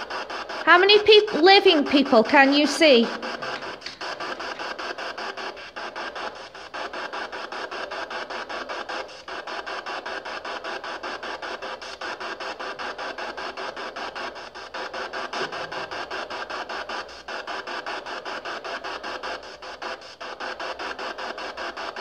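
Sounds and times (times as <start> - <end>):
pulsing radio static: 0.0 - 22.0.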